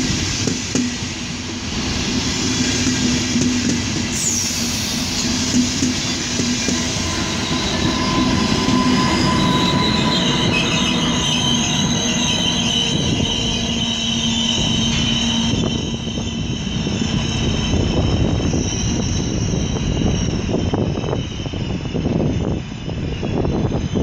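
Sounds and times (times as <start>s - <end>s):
train rumbling: 0.0s - 24.0s
train wheels squealing: 1.7s - 24.0s.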